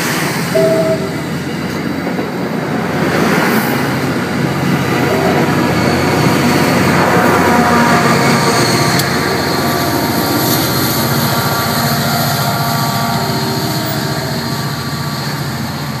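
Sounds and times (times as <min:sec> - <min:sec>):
diesel locomotive passing: 0:00.0 - 0:16.0
train wheel noise: 0:00.0 - 0:16.0
crossing bells ringing: 0:00.5 - 0:02.1, 0:04.8 - 0:16.0.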